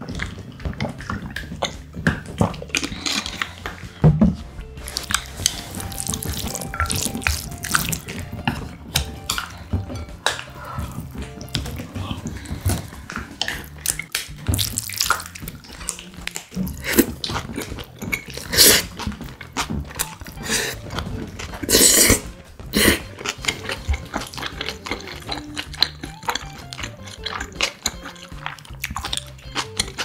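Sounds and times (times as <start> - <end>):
wet chewing: 0.0 - 30.0
noodle slurps: 0.8 - 3.8, 4.8 - 8.3, 10.3 - 30.0.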